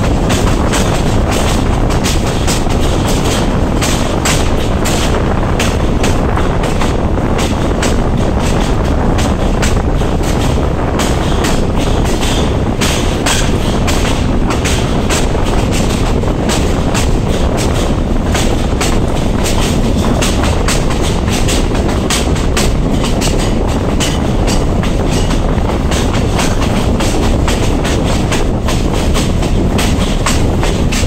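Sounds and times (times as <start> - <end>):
diesel railcar engine: 0.0 - 31.0
knocks and clatter: 0.0 - 31.0
wheels rolling on rail: 0.0 - 31.0.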